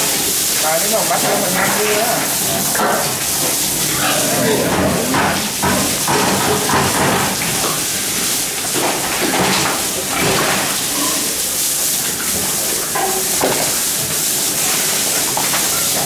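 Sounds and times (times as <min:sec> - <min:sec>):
hose water spraying: 0:00.0 - 0:16.0.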